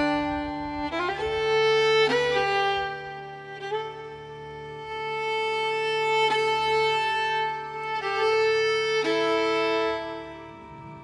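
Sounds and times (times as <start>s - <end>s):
slow long-held music notes: 0.0s - 11.0s.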